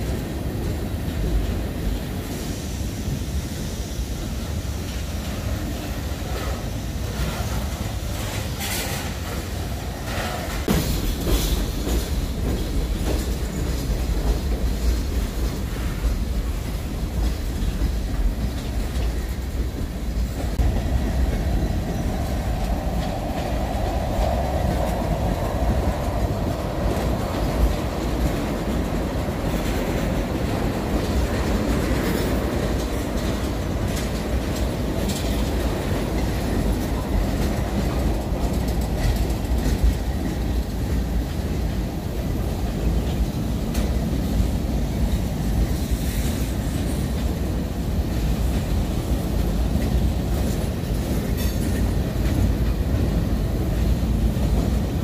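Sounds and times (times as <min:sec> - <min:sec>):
train wheels rumbling on rail: 0:00.0 - 0:55.0
clicking over rail joints: 0:04.7 - 0:55.0.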